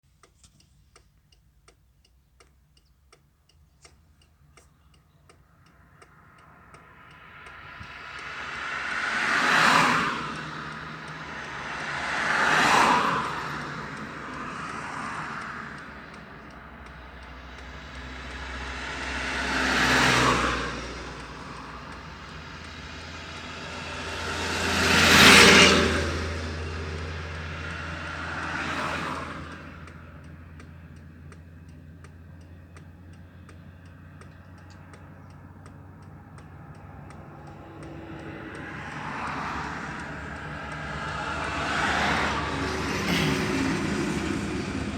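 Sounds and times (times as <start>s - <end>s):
motorway traffic passing: 3.0s - 44.9s.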